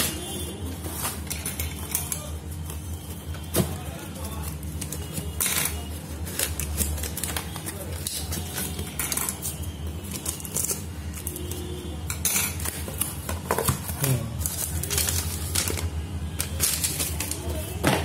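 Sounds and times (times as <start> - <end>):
cardboard and plastic rustling: 0.0 - 11.7, 12.6 - 18.0
paper crackling: 0.8 - 11.6, 12.6 - 17.8.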